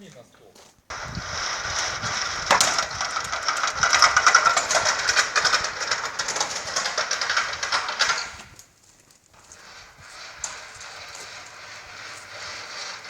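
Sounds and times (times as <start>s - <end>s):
machine clattering: 0.9s - 8.6s, 9.5s - 13.0s.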